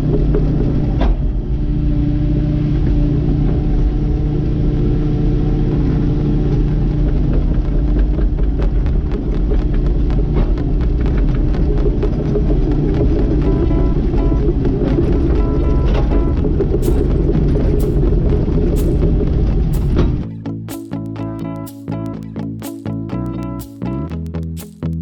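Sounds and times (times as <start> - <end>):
excavator diesel engine running: 0.0 - 21.8.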